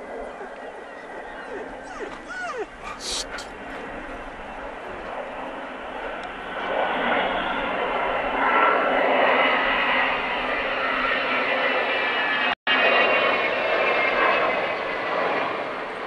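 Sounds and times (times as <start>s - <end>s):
jet bomber flying overhead: 0.0s - 16.0s.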